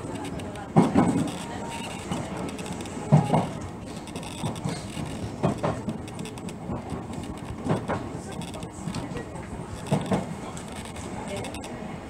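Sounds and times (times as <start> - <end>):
train wheels clacking: 0.0 - 11.8
train running rumble: 0.0 - 12.0.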